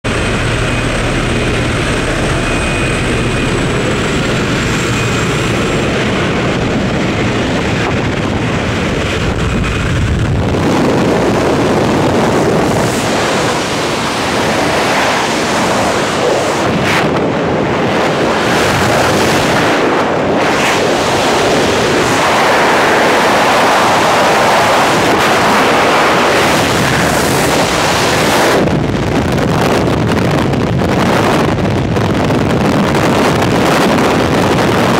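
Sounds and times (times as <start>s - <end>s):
plane engine drone: 0.0s - 34.9s
wind at open door: 0.0s - 34.9s
wind rushing over microphone: 0.0s - 34.9s.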